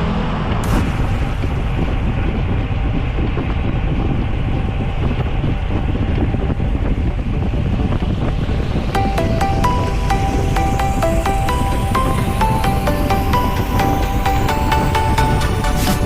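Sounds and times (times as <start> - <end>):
bicycle tyre road noise: 0.0 - 16.0
wind rumble on microphone: 0.0 - 16.0.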